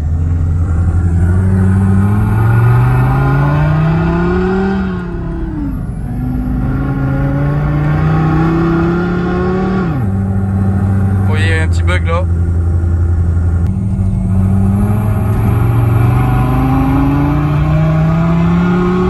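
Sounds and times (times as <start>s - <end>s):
synthetic engine sound accelerating: 0.0s - 19.0s.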